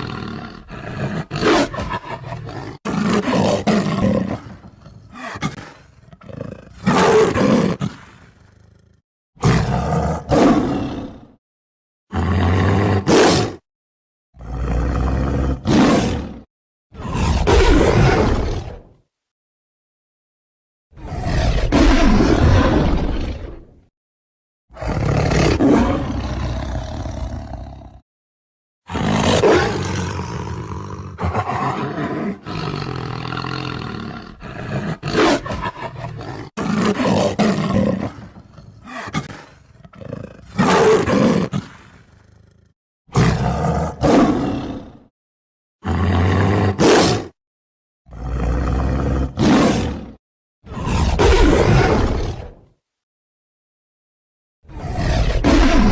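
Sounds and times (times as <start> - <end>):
tiger roaring: 0.0 - 11.4, 12.1 - 13.6, 14.4 - 18.9, 21.0 - 23.8, 24.7 - 28.0, 28.9 - 45.1, 45.8 - 47.4, 48.1 - 52.6, 54.7 - 55.9.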